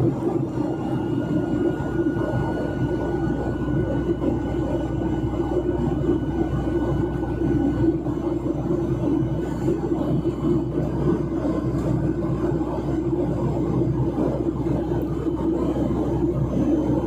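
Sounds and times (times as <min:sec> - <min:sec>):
aircraft cabin engine rush: 0:00.0 - 0:17.0
faint high whine: 0:00.0 - 0:17.0.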